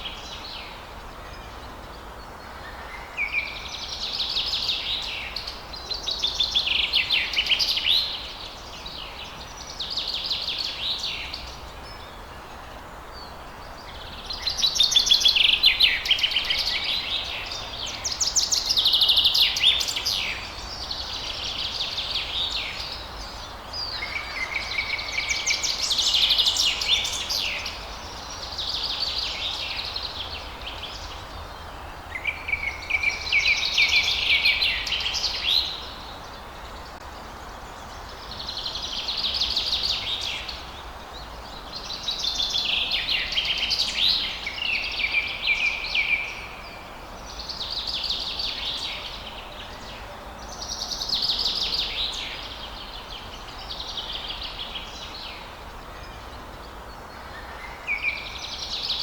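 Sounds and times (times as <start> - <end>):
low background hiss: 0.0 - 59.0.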